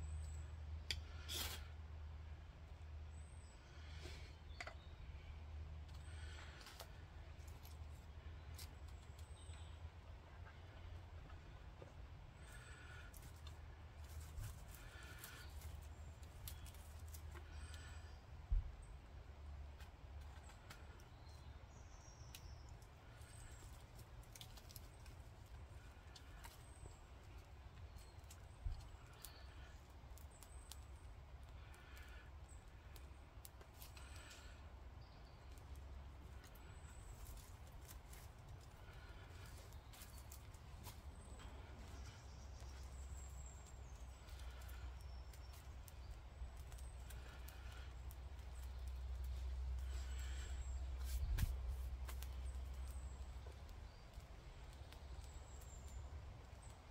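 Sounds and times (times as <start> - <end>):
dry twigs being handled: 0.1 - 1.8, 5.8 - 18.4, 19.6 - 56.9
campfire crackling: 5.1 - 56.9.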